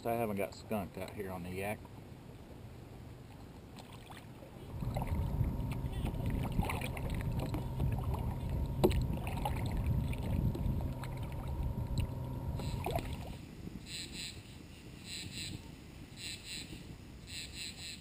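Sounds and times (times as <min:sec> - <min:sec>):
wind: 0:00.0 - 0:18.0
water noise: 0:00.7 - 0:17.2.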